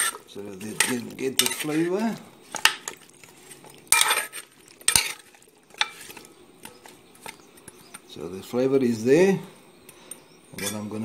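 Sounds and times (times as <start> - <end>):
spoon scraping cast iron pot: 0.0 - 8.1, 9.8 - 11.0.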